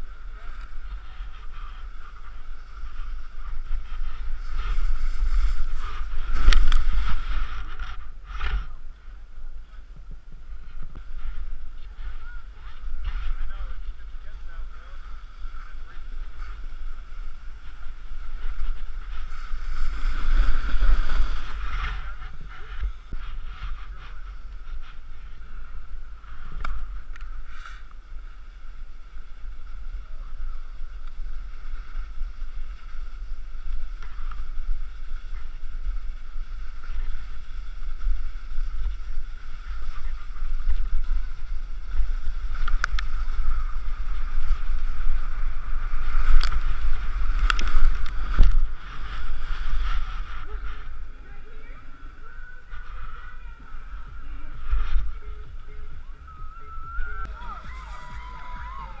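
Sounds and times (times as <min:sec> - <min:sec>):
snowboard scraping over snow: 0:00.0 - 0:55.9, 0:57.3 - 0:59.0
wind rumbling on microphone: 0:00.0 - 0:59.0.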